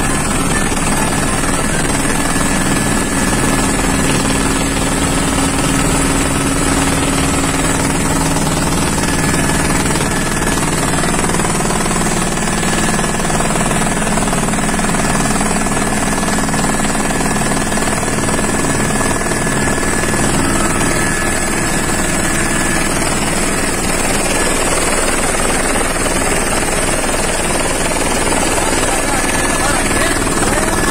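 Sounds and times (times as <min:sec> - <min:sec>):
helicopter engine and rotor drone: 0:00.0 - 0:30.9.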